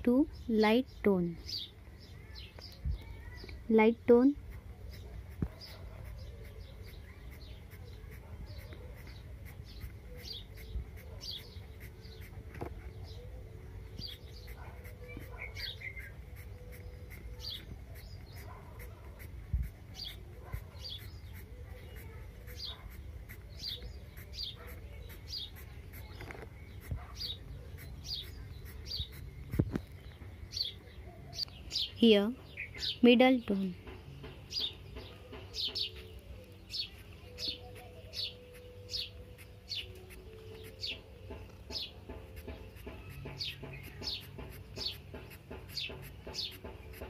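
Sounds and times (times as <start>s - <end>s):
small bird chirping: 0.0s - 47.0s.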